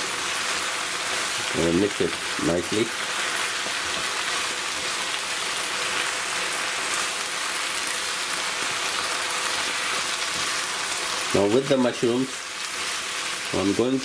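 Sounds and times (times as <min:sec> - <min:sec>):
fried rice sizzling in a pan: 0:00.0 - 0:14.0.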